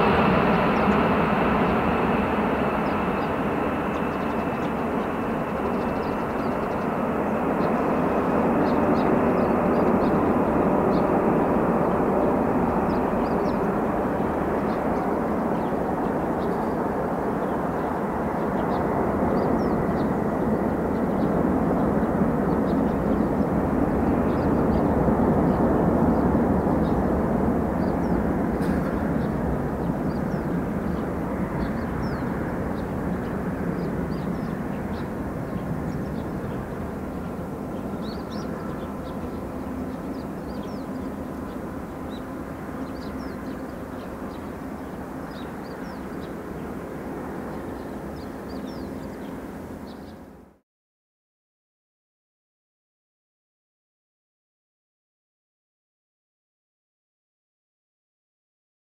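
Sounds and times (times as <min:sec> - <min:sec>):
jet engines rushing: 0:00.0 - 0:50.5.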